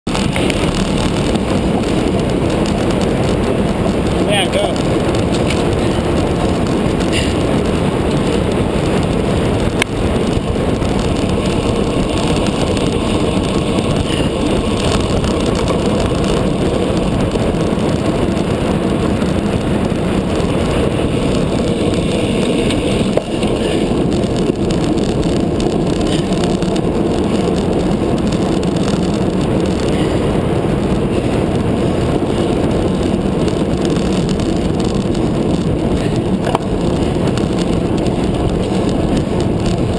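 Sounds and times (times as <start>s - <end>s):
road rumble: 0.0s - 39.9s
wind rush: 0.0s - 39.9s.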